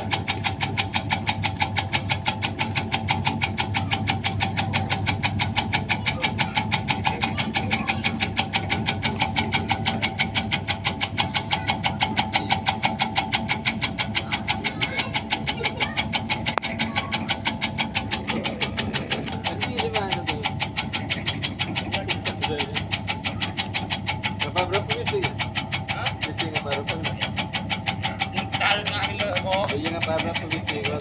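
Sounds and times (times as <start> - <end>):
cutting machine running: 0.0 - 31.0.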